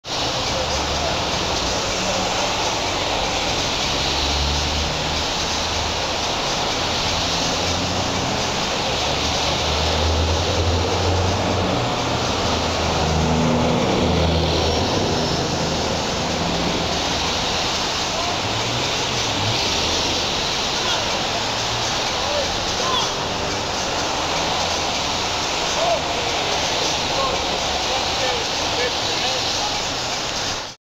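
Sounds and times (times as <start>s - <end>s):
street noise hiss: 0.0s - 30.8s.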